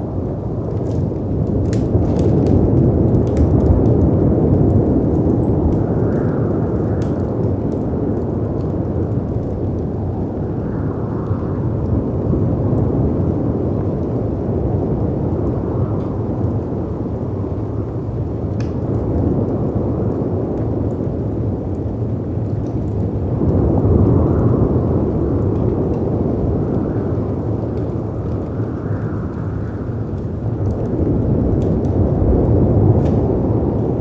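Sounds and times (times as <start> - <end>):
howling wind: 0.0 - 34.0
wood fire crackling: 0.0 - 34.0.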